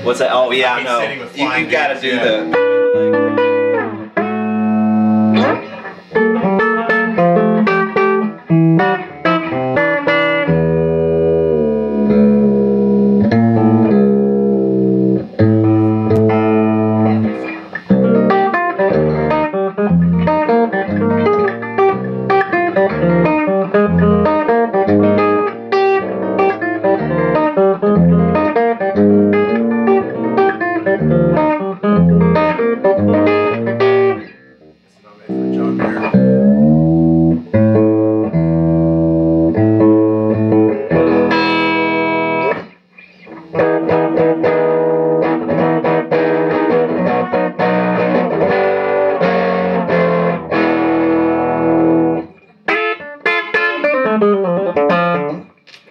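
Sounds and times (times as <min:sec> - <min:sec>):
electric guitar chords: 0:00.9 - 0:55.6.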